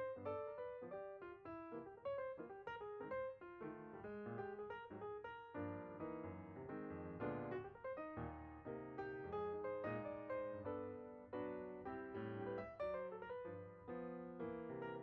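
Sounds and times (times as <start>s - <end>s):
piano melody over bass notes: 0.0s - 15.0s.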